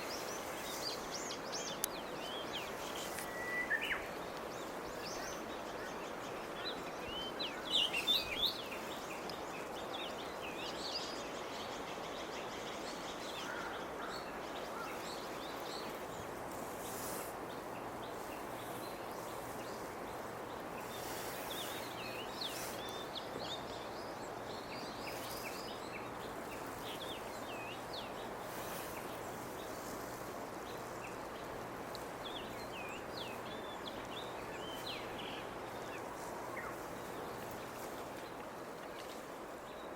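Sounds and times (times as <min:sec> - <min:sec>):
outdoor background hiss: 0:00.0 - 0:39.9
songbirds chirping: 0:00.0 - 0:39.9.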